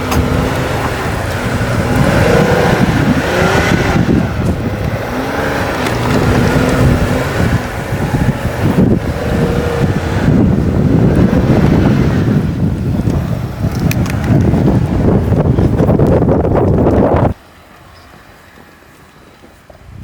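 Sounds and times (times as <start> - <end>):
engine revving up and down: 0.0 - 17.4.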